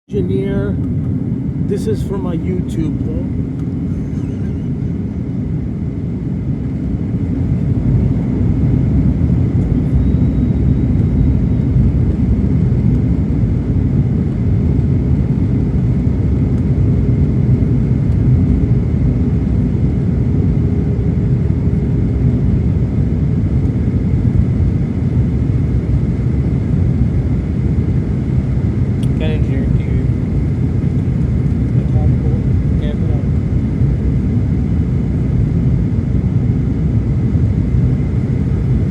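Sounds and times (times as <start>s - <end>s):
airliner cabin engine rumble: 0.1s - 38.9s.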